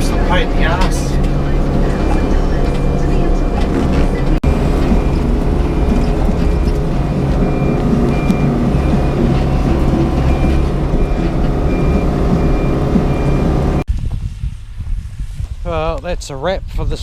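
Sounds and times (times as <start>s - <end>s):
travel alarm beeping: 0.0s - 13.8s
excavator diesel engine running: 0.0s - 13.9s.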